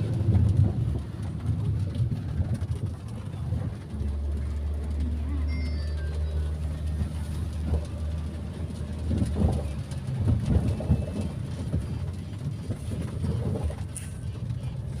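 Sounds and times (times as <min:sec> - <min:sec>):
car engine and road drone: 0:00.0 - 0:15.0
rain patters on car body: 0:00.0 - 0:15.0.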